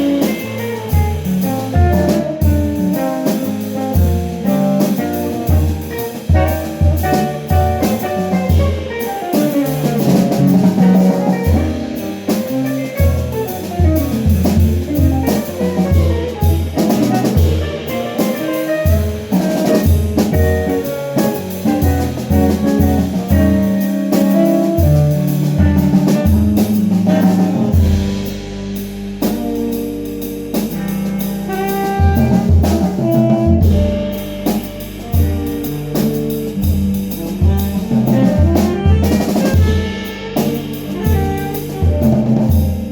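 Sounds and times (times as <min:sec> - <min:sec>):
jazz band playing: 0:00.0 - 0:42.9.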